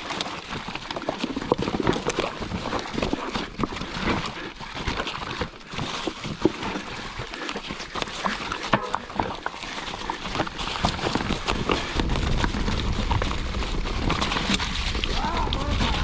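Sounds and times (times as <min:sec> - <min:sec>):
mountain bike clattering over rocks: 0:00.0 - 0:16.0.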